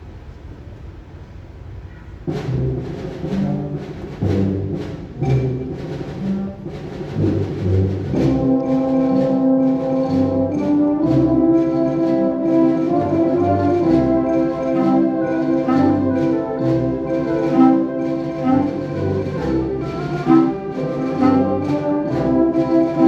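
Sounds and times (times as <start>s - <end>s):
concert wind band playing: 2.3s - 23.0s.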